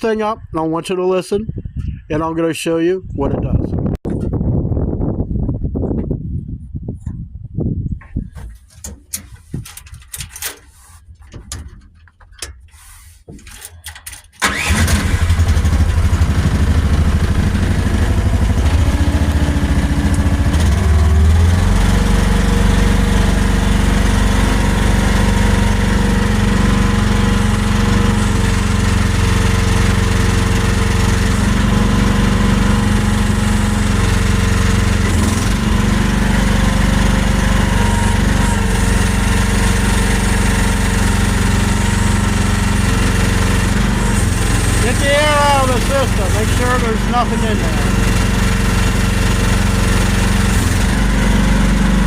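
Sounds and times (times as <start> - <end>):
excavator engine starting and running: 8.3 - 52.0.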